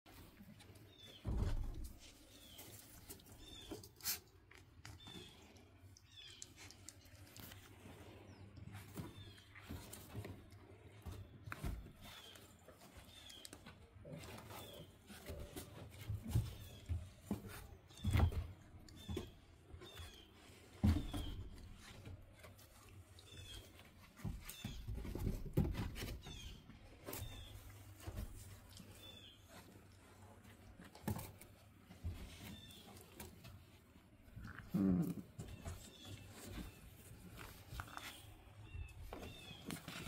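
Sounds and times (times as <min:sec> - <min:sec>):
puppies scuffling on wooden floor: 0:00.1 - 0:40.0.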